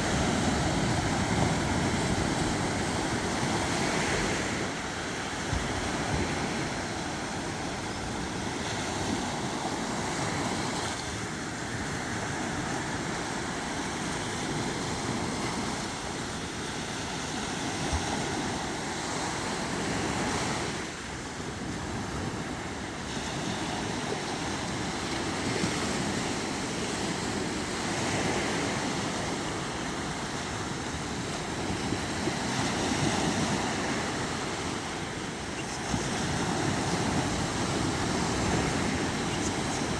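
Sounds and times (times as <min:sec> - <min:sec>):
wind on microphone: 0:00.0 - 0:20.9, 0:21.5 - 0:39.9
sea waves washing on shore: 0:00.0 - 0:39.9.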